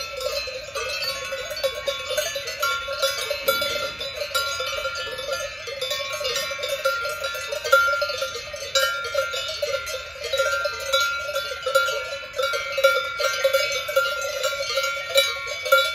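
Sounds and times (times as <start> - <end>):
cowbells clanging: 0.0 - 15.9.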